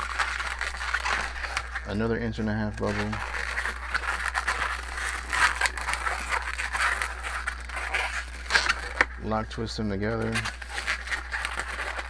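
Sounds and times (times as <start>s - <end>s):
balloon clicks and squeaks: 0.0s - 12.0s
balloon rubbing and crinkling: 0.0s - 12.0s.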